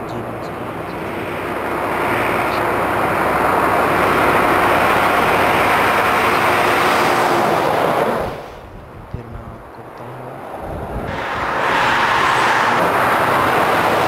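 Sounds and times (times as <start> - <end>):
diesel engine drone: 0.0 - 14.0
truck tyre roar: 0.0 - 14.0.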